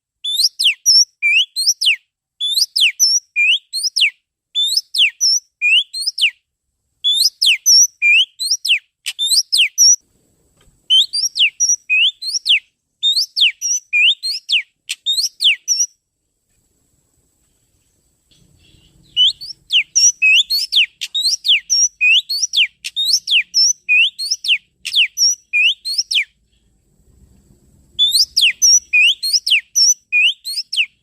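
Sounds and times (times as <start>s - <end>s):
bird song high whistled notes: 0.2s - 6.4s, 7.0s - 10.0s, 10.9s - 16.0s, 18.3s - 26.4s, 28.0s - 31.0s.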